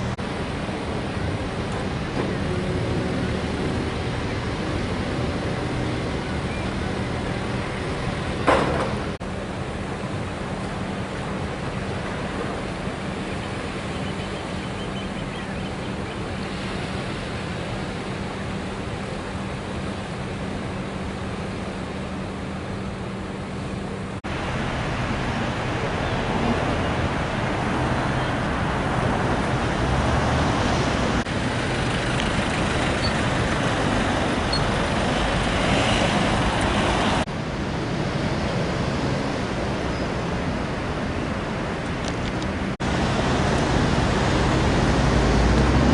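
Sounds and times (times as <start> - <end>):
road traffic noise: 0.0 - 45.9.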